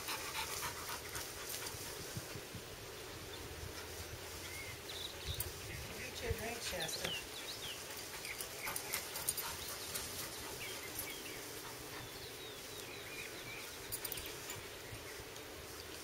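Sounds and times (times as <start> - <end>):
dogs moving on grass: 0.0 - 16.0.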